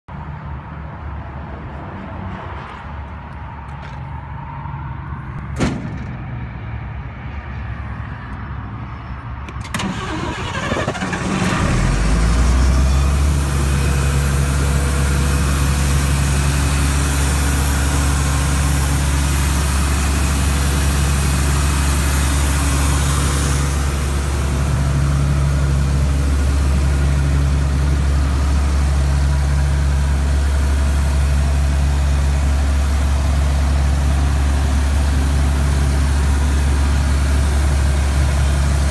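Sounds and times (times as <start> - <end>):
diesel engine starting and running: 0.1 - 38.9.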